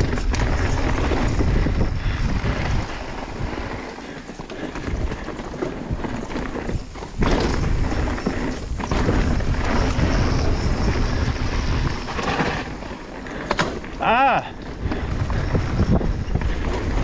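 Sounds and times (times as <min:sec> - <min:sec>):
wind noise rushing: 0:00.0 - 0:04.0, 0:04.6 - 0:13.0, 0:13.9 - 0:17.0
mountain bike rattling over rocks: 0:00.0 - 0:17.0.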